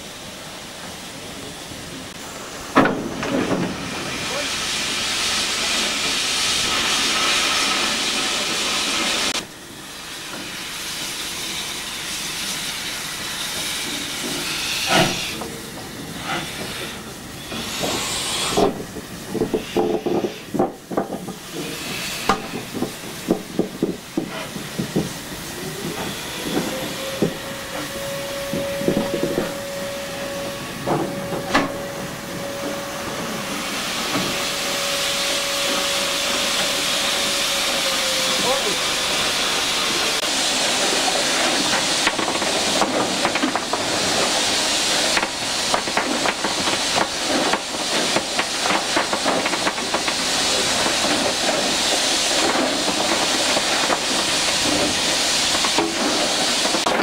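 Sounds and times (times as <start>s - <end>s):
steam hissing: 0.0s - 57.0s.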